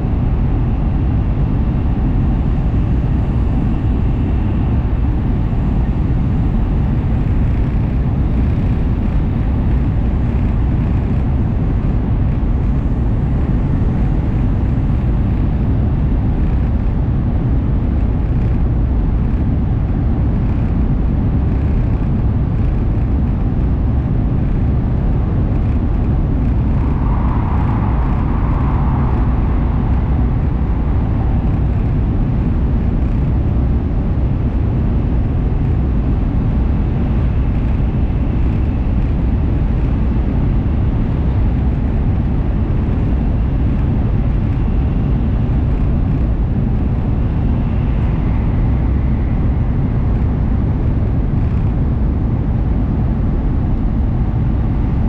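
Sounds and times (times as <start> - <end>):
train rumbling through tunnel: 0.0 - 55.0.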